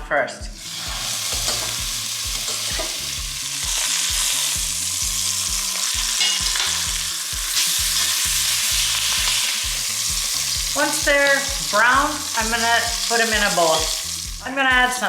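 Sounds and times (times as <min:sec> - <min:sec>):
chicken sizzling in hot oil: 0:00.6 - 0:15.0.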